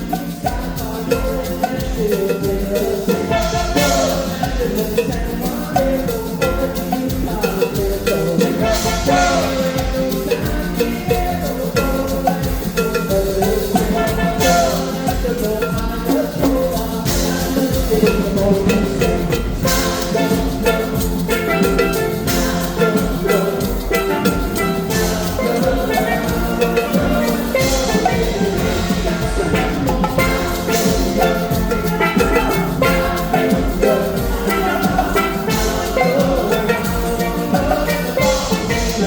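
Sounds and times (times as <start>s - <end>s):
drum kit beat: 0.0s - 39.0s
hand percussion: 0.0s - 39.0s
marimba: 0.0s - 39.0s
steel pan band playing: 0.0s - 39.0s.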